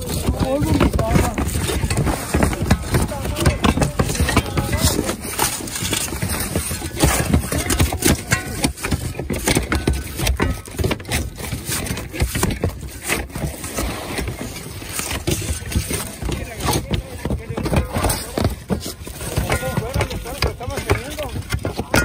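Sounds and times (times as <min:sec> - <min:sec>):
tools scraping and knocking shingles: 0:00.0 - 0:22.0.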